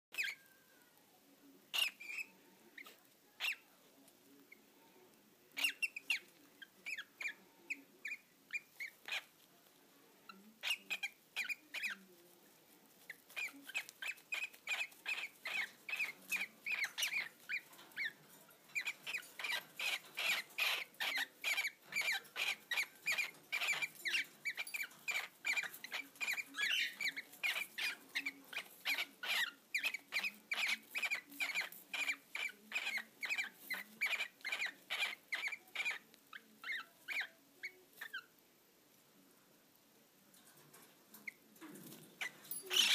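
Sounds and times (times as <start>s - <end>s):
cockatiels peeping: 0.1s - 0.7s, 1.6s - 4.7s, 5.5s - 38.4s, 40.4s - 42.9s.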